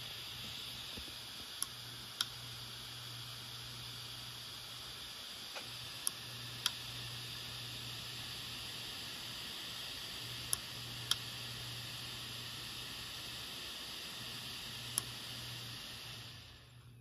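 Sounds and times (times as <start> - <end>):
hard drive hum and hiss: 0.0 - 17.0.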